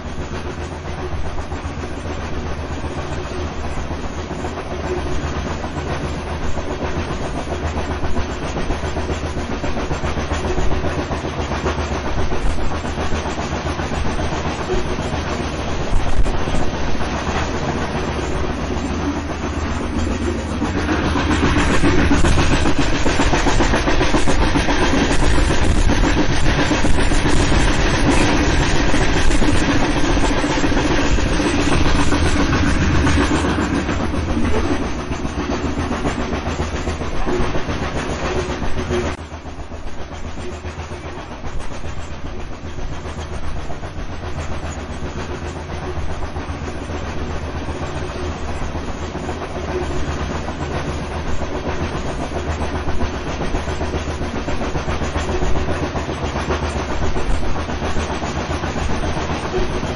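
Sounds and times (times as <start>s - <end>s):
train wheels clacking on rails: 0.0s - 59.9s.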